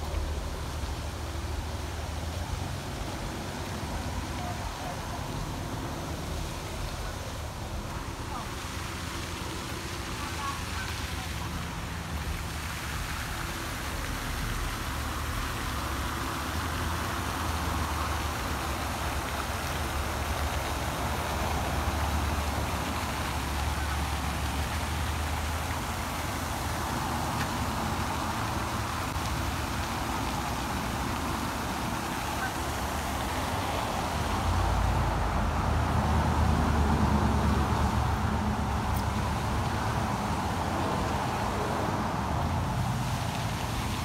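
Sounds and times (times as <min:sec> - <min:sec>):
fountain spray splashing on water: 0:00.0 - 0:44.0.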